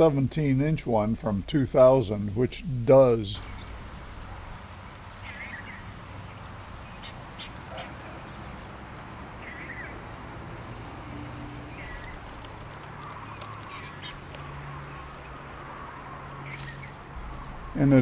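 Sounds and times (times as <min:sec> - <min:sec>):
steady outdoor hiss: 0:00.0 - 0:18.0.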